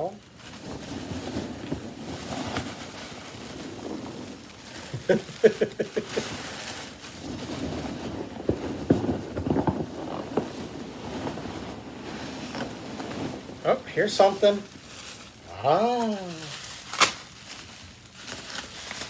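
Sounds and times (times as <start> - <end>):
packaging rustling in box: 0.0 - 19.0.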